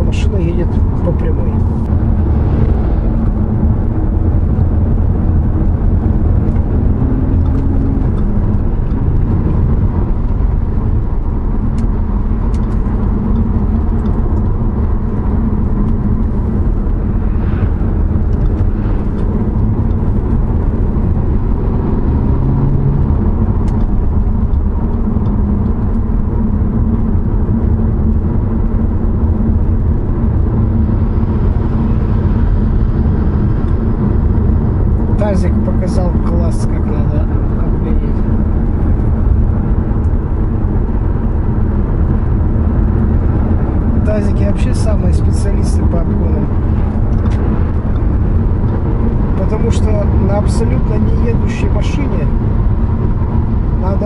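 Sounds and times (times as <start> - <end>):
car engine drone: 0.0 - 54.0
tyre and road rumble: 0.0 - 54.0.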